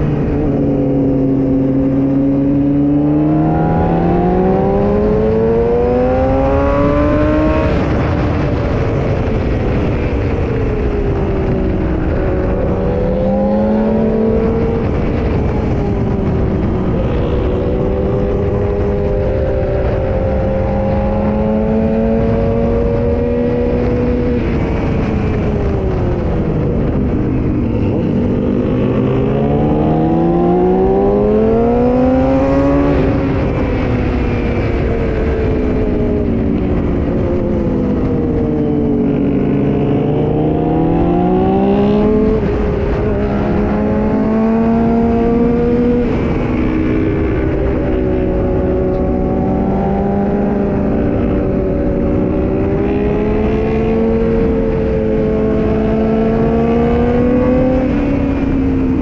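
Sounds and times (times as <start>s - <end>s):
motorcycle engine accelerating: 0.0s - 59.0s
wind rush on microphone: 0.0s - 59.0s.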